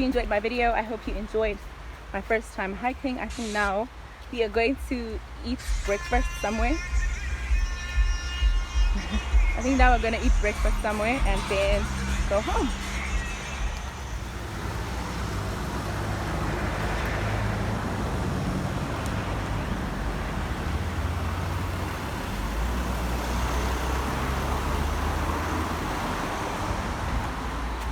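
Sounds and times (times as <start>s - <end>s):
tyre and road hiss: 0.0s - 27.9s
vehicle low rumble: 0.0s - 27.9s.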